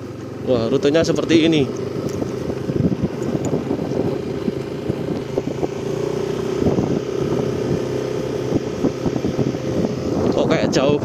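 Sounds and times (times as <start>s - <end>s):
motorcycle engine running: 0.0s - 11.0s
wind rumbling on microphone: 1.1s - 11.0s.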